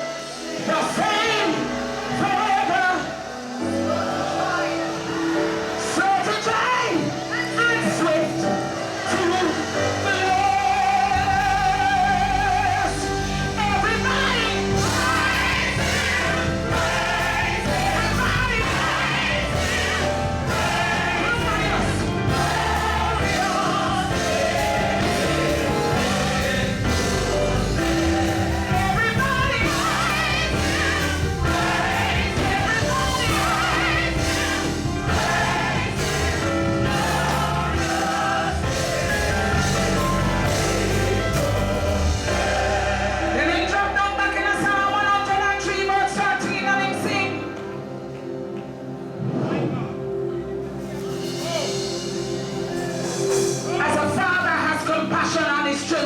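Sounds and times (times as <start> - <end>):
vocal group singing: 0.0 - 48.5
band playing: 0.0 - 56.0.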